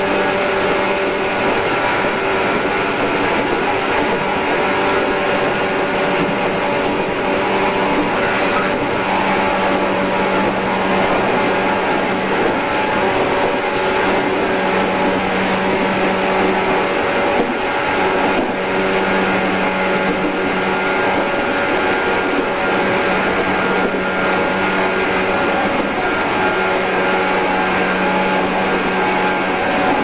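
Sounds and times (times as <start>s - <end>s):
train motor and gear hum: 0.0s - 30.0s
train wheels rumbling on rails: 0.0s - 30.0s.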